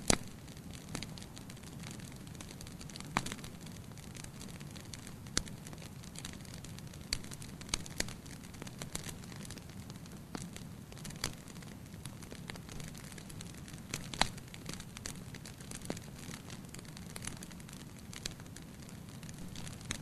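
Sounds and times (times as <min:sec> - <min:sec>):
fire crackles and pops: 0:00.0 - 0:20.0
fire rumbling and hissing: 0:00.0 - 0:20.0.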